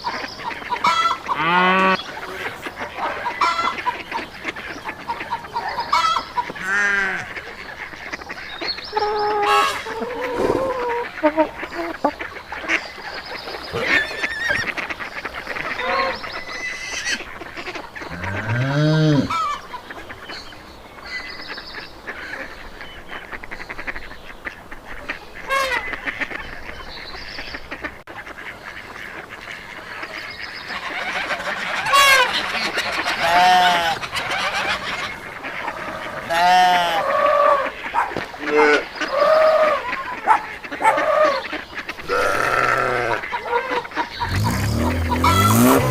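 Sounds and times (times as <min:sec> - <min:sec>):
farm animal calls: 0:00.0 - 0:45.9.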